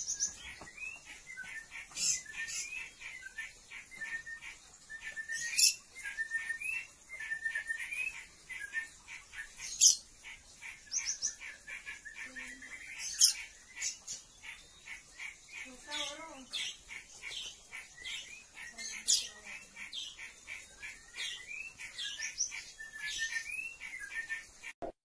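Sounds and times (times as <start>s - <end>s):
bird chirping: 0.0s - 24.8s.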